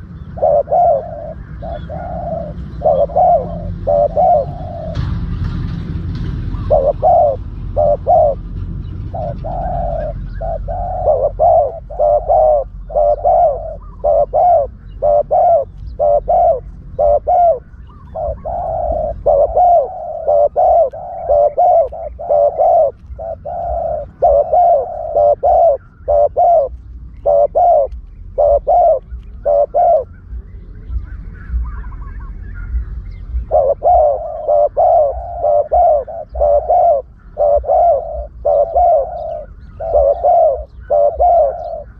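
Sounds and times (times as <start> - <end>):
dove cooing: 0.0 - 41.9
low steady rumble: 0.0 - 41.9.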